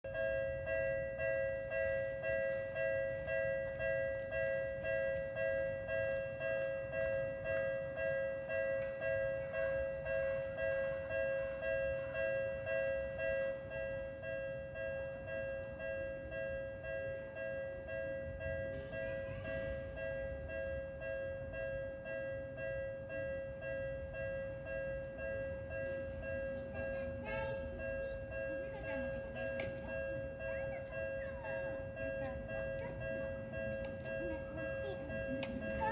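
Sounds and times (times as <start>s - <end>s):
level crossing warning bell: 0.0s - 35.9s.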